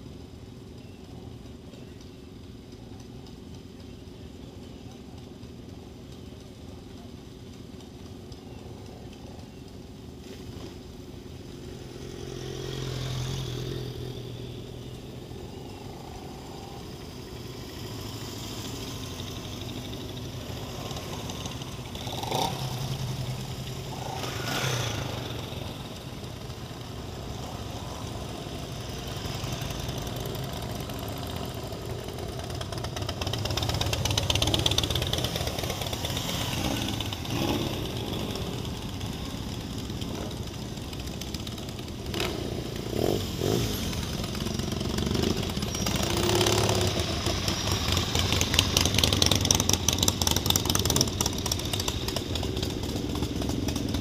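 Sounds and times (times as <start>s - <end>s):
motorcycles riding past: 0.1s - 54.0s.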